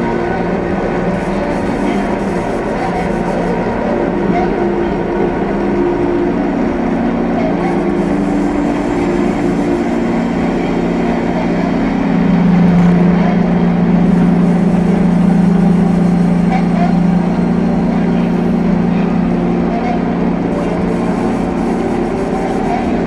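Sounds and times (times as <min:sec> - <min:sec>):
drone noise music: 0:00.0 - 0:23.0.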